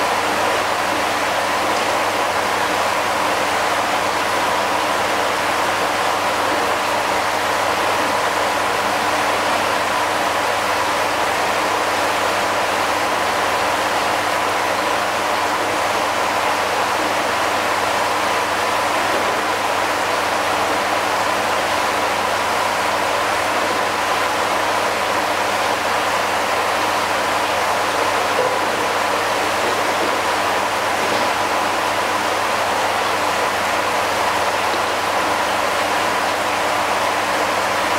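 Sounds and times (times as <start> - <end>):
running water rushing: 0.0 - 37.9.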